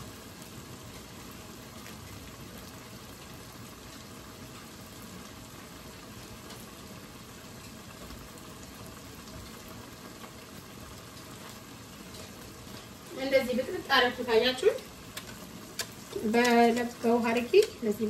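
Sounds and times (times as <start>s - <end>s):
stew bubbling in pot: 0.0s - 18.0s.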